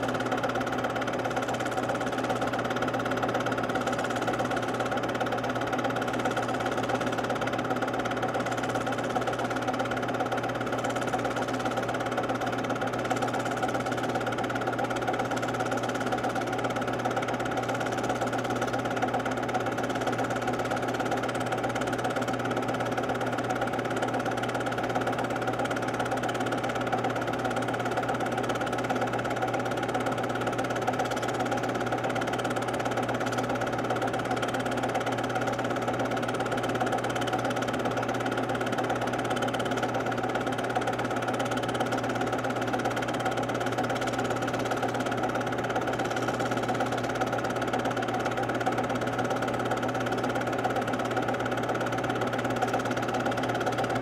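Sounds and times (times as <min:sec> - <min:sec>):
film projector whirring: 0:00.0 - 0:54.0.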